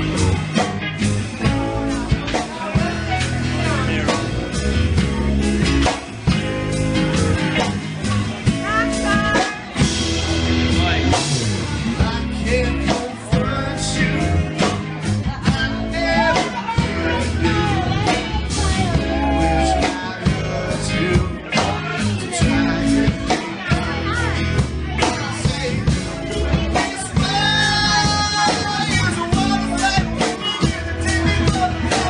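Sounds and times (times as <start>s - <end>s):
rock song with singing: 0.0s - 32.0s.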